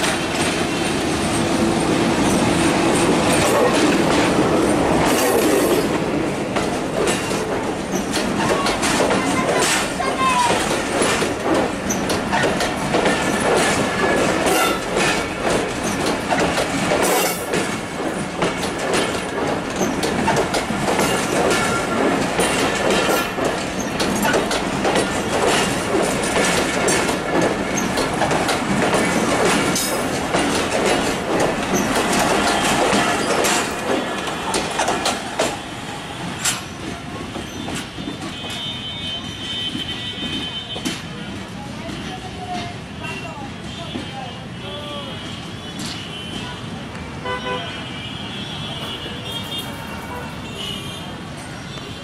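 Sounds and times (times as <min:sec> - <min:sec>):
train wheels clattering over rail joints: 0:00.0 - 0:43.0.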